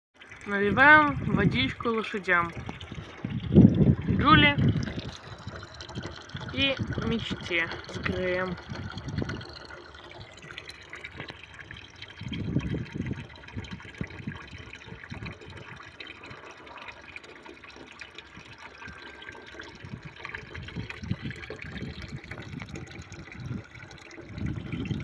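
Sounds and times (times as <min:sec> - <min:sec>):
water running into container: 0:00.2 - 0:25.0.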